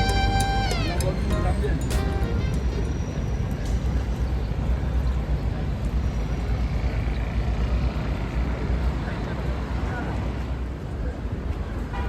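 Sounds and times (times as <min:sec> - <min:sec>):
vehicle rumbling in motion: 0:00.0 - 0:11.9.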